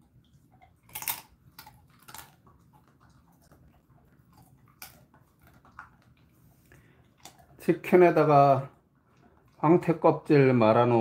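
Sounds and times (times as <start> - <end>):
dog crunching a treat: 0.0 - 10.0.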